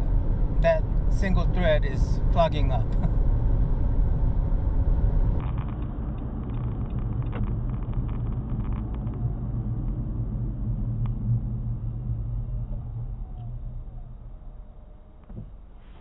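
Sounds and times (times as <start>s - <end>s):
car interior engine and road noise: 0.0s - 15.7s.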